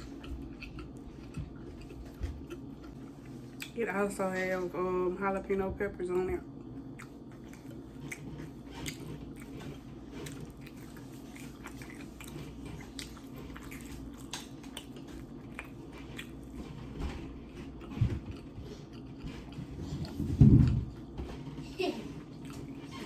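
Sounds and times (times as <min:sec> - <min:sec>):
person chewing food: 0:00.0 - 0:03.8, 0:06.5 - 0:23.0.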